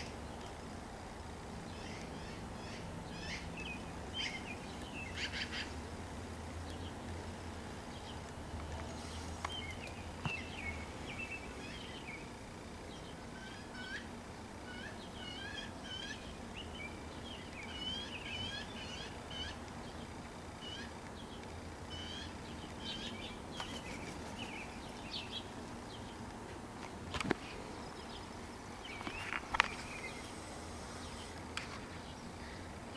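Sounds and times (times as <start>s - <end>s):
songbird chirping: 0.0s - 32.9s.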